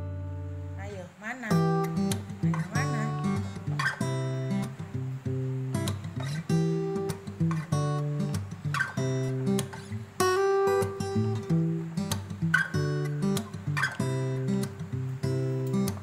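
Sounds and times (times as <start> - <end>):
guitar chords strummed: 0.0 - 16.0.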